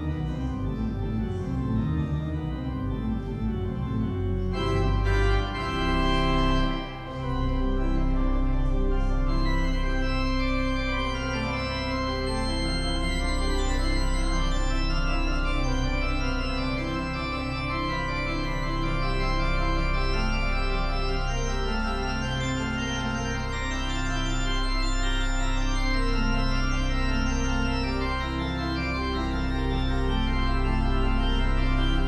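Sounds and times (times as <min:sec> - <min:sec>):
pipe organ chords: 0:00.0 - 0:32.0.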